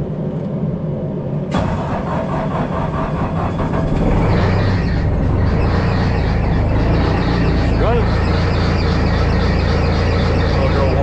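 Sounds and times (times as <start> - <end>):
diesel engine cranking and starting: 1.5 - 11.0.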